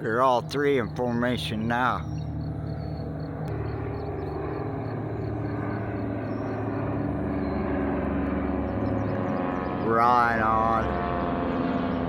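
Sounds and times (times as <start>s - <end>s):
airplane engines droning: 0.0s - 12.0s.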